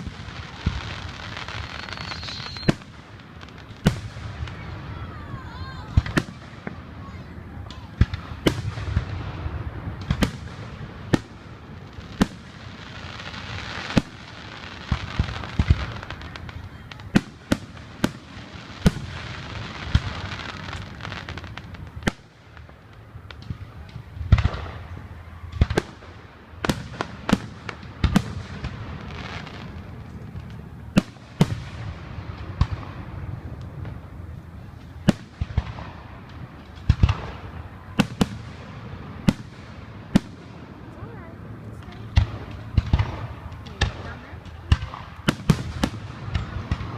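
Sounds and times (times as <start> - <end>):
fireworks booming: 0.0 - 46.9
fireworks hissing and crackling: 0.0 - 46.9.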